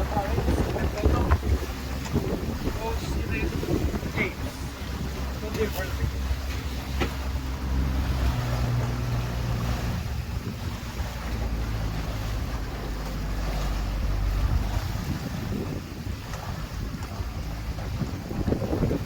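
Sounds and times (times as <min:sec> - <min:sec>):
boat engine humming: 0:00.0 - 0:19.0
water splashing on hull: 0:00.0 - 0:19.0
wind on microphone: 0:00.0 - 0:19.0.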